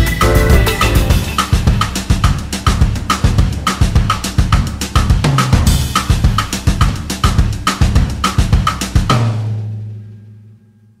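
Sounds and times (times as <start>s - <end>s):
drum beat with bass line: 0.0s - 10.4s.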